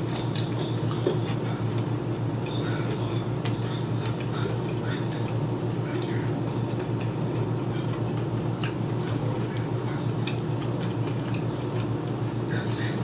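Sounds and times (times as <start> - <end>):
person chewing food: 0.0 - 12.4
steady low hum: 0.0 - 13.0.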